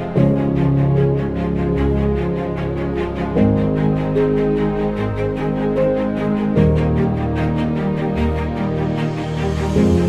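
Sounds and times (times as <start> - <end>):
music with held chords and pulse: 0.0 - 10.0.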